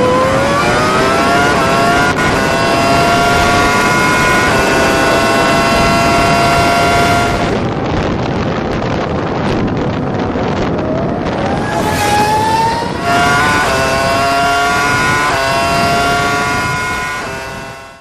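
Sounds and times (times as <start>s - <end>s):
scooter engine whining: 0.0s - 7.8s, 9.9s - 18.0s
wind on microphone: 0.0s - 18.0s.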